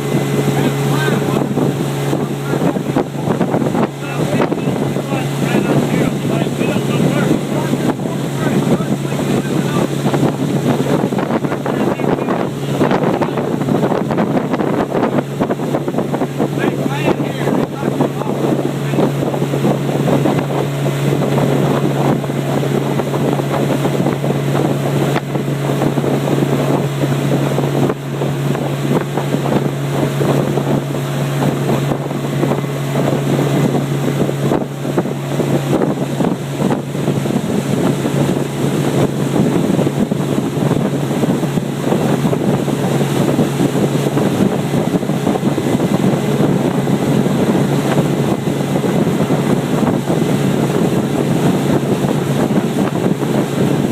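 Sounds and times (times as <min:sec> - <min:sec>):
motorboat engine running: 0:00.0 - 0:53.9
water rushing: 0:00.0 - 0:53.9
wind buffeting microphone: 0:00.0 - 0:53.9.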